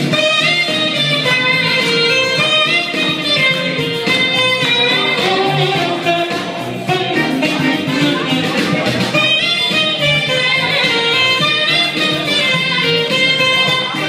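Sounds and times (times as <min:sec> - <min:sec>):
jazzy saxophone music: 0:00.0 - 0:14.0.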